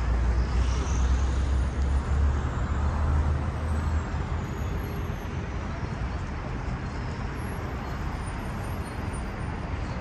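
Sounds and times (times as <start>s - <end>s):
steady road noise: 0.0s - 10.0s.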